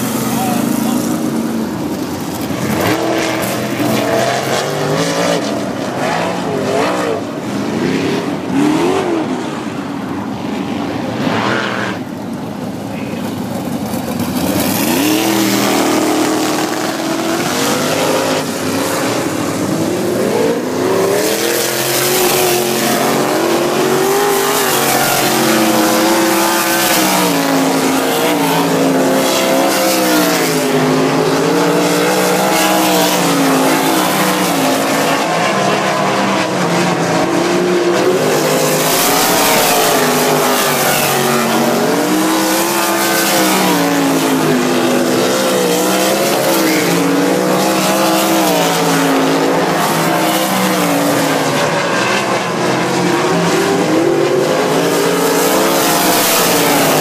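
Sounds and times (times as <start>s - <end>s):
sprint car engines lapping: 0.0s - 57.0s.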